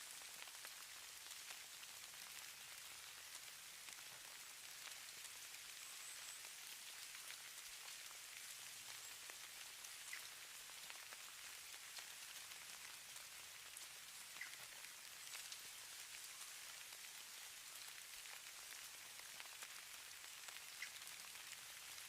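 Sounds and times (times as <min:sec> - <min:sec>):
faint steady high hiss: 0:00.0 - 0:22.0
light ticks of precipitation: 0:00.0 - 0:22.0.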